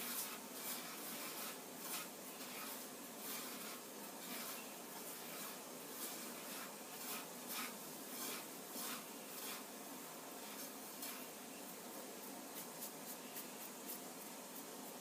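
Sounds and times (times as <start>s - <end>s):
hand rubbing grains in bowl: 0.0s - 15.0s.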